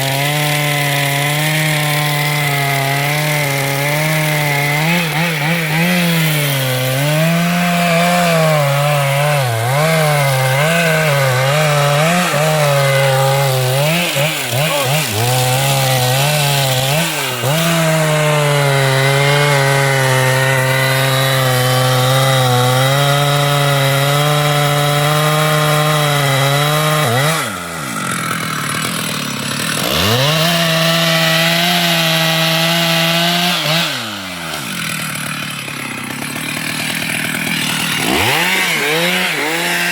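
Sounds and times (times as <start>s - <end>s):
chainsaw cutting into tree: 0.0s - 39.9s.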